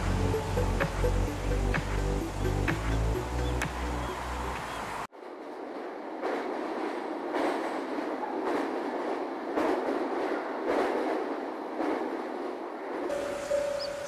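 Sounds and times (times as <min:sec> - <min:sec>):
electric train rushing rumble: 0:00.0 - 0:14.0.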